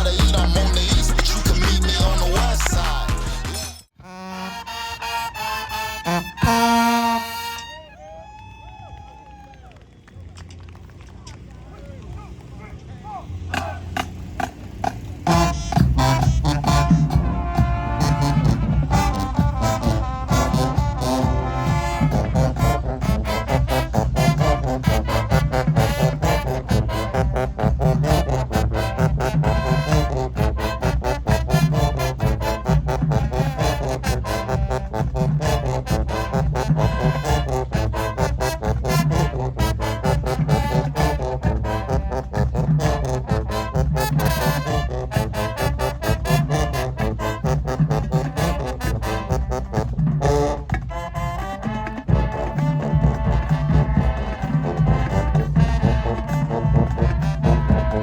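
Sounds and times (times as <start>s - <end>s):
marching drum beat: 0.0s - 3.6s, 13.5s - 58.0s
brass section playing: 0.0s - 8.2s, 13.4s - 58.0s.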